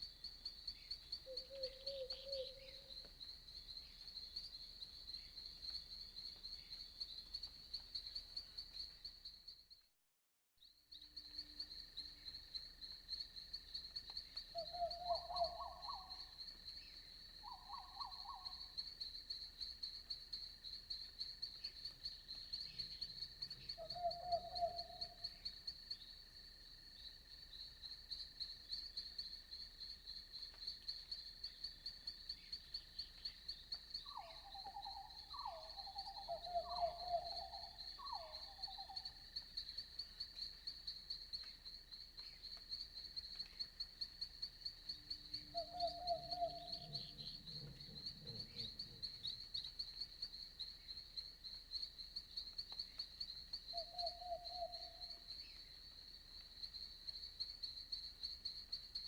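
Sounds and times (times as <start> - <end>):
crickets chirping: 0.0 - 9.8, 10.6 - 59.0.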